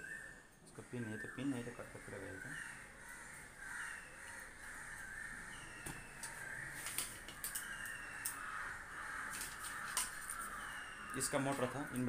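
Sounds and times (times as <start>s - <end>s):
bird calls: 0.0s - 12.0s.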